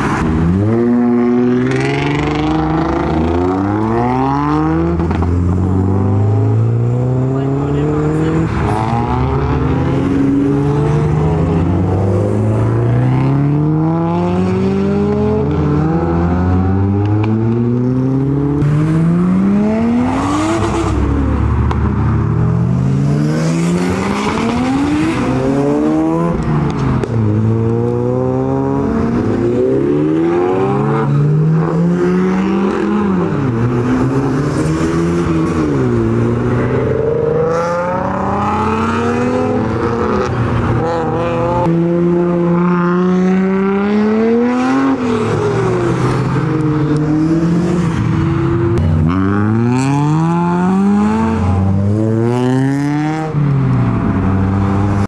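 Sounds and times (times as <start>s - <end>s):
car engines accelerating and revving: 0.0s - 55.0s.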